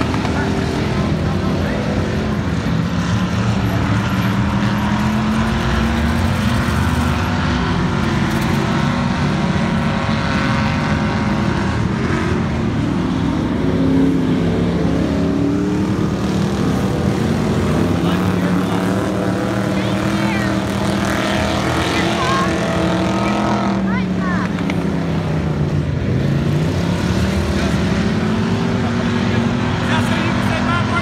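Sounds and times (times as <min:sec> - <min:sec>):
racing car engines: 0:00.0 - 0:31.0.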